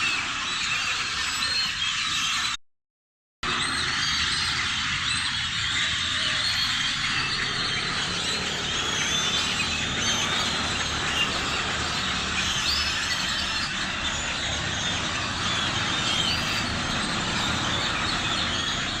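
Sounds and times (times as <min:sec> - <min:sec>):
flock of birds chirping: 0:00.0 - 0:02.6, 0:03.4 - 0:19.0.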